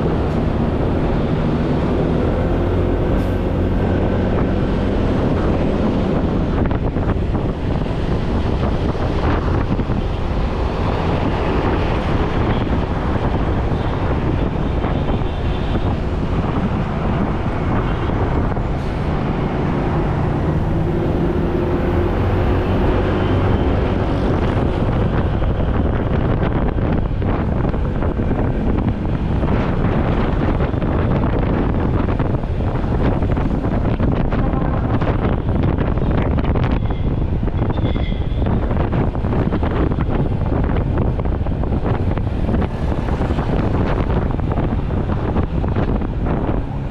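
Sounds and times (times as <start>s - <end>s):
fire engine driving: 0.0s - 46.9s
wind buffeting microphone: 0.0s - 46.9s.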